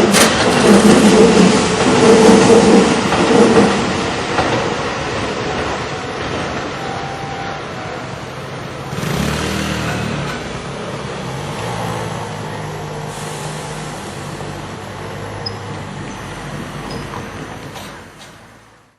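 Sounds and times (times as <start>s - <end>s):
street noise: 0.0s - 18.9s.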